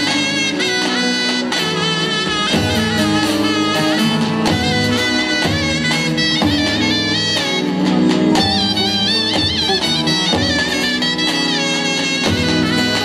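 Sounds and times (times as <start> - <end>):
reed wind instrument melody: 0.0 - 13.0.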